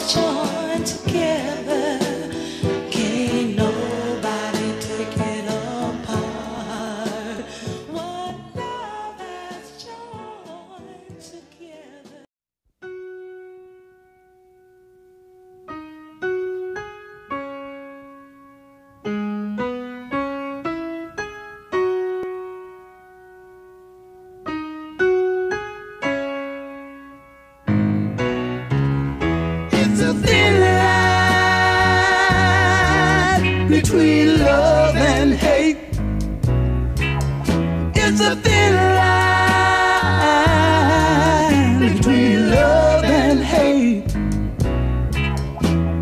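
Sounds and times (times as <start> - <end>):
background song: 0.0 - 12.3, 19.6 - 46.0.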